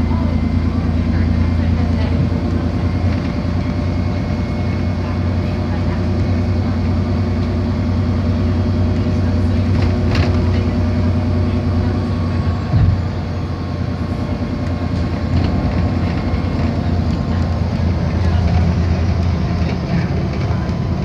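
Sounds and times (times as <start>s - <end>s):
bus interior drive hum: 0.0s - 21.0s.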